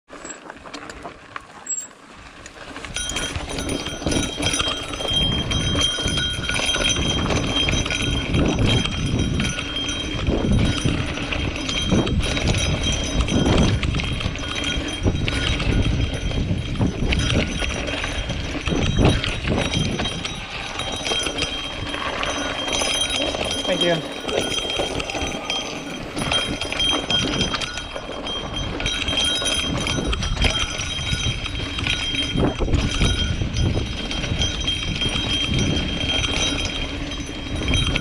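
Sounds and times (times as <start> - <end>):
bike tyres crunching over stones: 0.1 - 37.9
bike rattling over bumps: 0.1 - 38.0
wind rumbling on microphone: 2.1 - 38.0.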